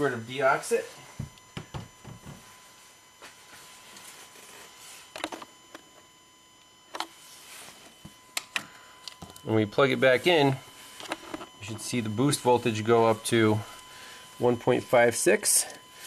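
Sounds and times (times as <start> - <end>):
faint steady high tone: 0.0 - 16.0.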